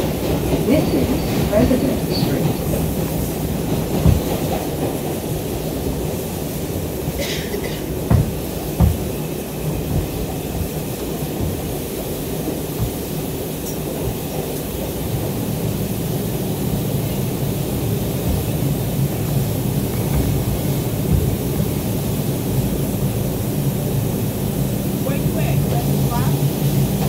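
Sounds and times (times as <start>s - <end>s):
subway wheels rumbling on rail: 0.0s - 27.0s.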